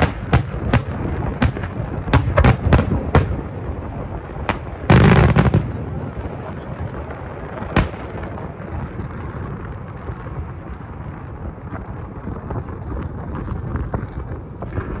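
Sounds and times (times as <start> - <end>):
firework bang: 0.0 - 15.0
firework pops and crackles: 0.0 - 15.0
wind rumble on microphone: 0.0 - 15.0.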